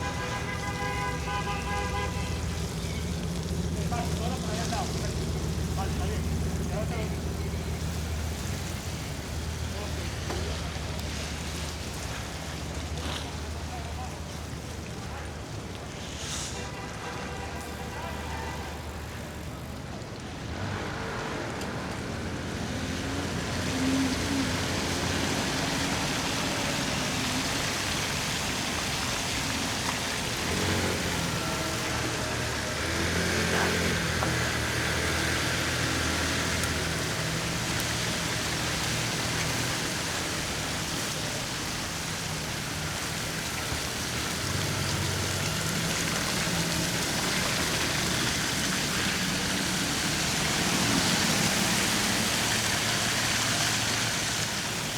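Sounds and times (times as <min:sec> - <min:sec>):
bicycle tyres rolling through slush: 0:00.0 - 0:54.9
car engines humming in traffic: 0:00.0 - 0:54.9.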